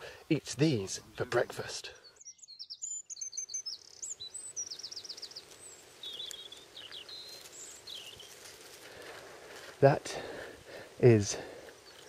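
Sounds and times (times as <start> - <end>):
faint outdoor hiss: 0.0 - 12.0
songbird singing: 0.0 - 12.0.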